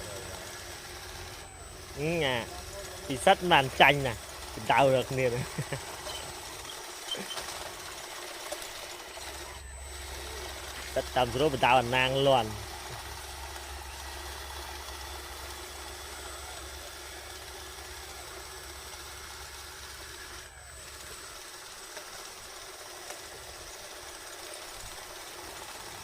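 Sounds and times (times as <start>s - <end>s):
model bulldozer motor drone: 0.0s - 26.0s.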